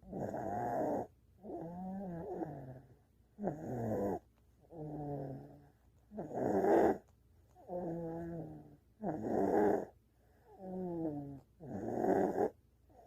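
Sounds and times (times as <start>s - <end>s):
person snoring: 0.0s - 5.6s, 6.2s - 7.0s, 7.7s - 9.9s, 10.6s - 12.6s.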